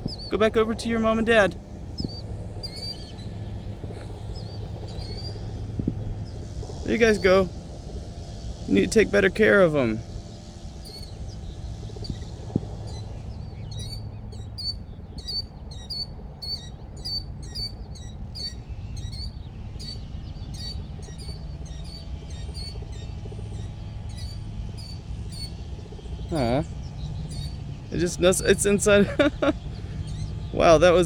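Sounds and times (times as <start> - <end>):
small bird chirping: 0.0 - 31.0
steady low hum: 0.0 - 31.0.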